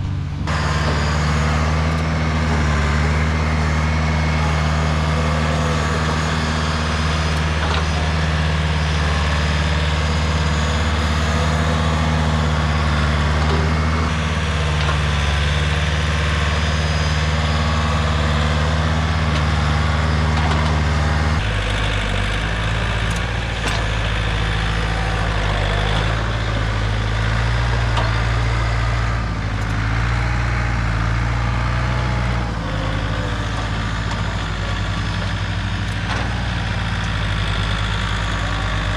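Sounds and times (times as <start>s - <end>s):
heavy equipment engine running: 0.0s - 38.9s.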